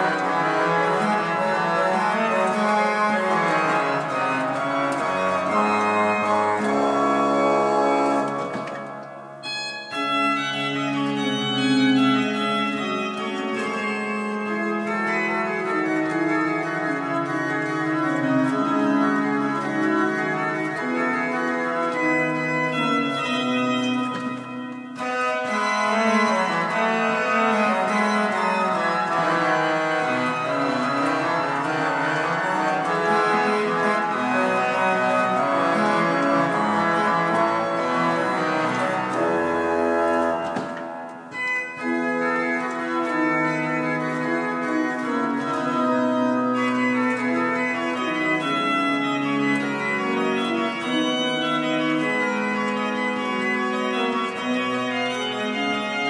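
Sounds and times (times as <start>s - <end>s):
pipe organ playing baroque piece: 0.0s - 56.0s.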